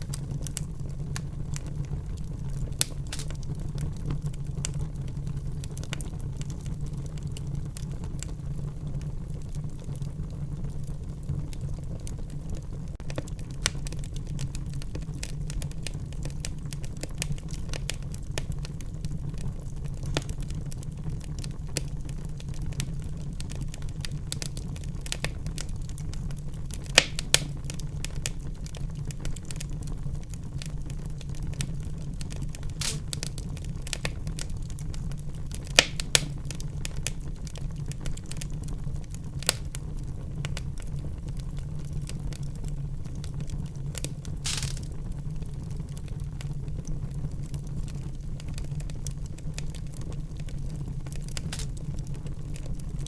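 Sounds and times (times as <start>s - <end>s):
loud pops from fire: 0.0s - 10.0s, 10.6s - 53.0s
wood fire crackling: 0.0s - 53.0s.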